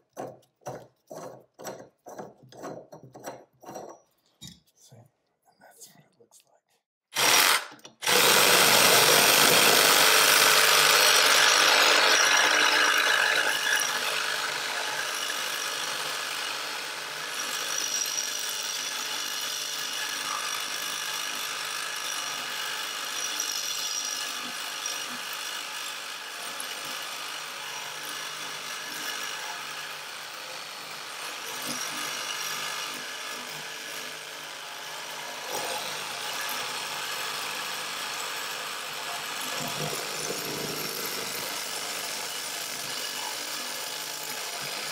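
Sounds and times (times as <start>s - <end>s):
reciprocating saw cutting metal: 7.2s - 44.9s.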